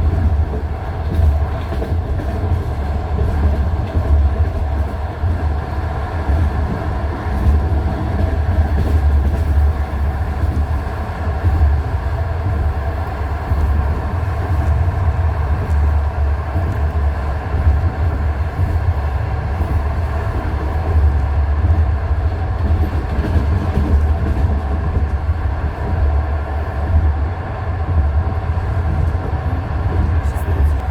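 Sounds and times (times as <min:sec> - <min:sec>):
low rumble of running train: 0:00.0 - 0:30.9.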